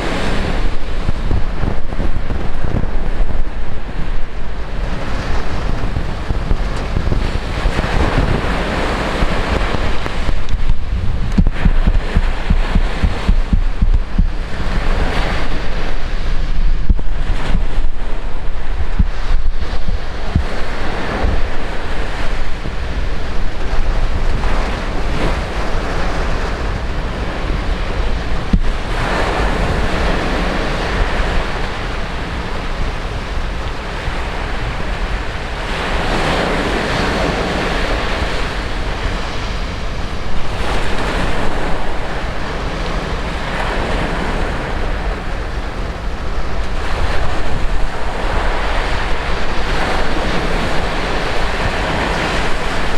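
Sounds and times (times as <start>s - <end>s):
heavy surf crashing on shore: 0.0s - 52.9s
wind buffeting microphone: 0.0s - 52.9s.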